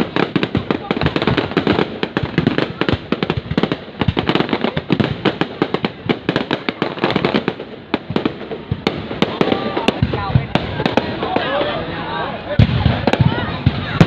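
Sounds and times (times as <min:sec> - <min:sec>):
fireworks bangs and pops: 0:00.0 - 0:11.8, 0:12.5 - 0:14.0.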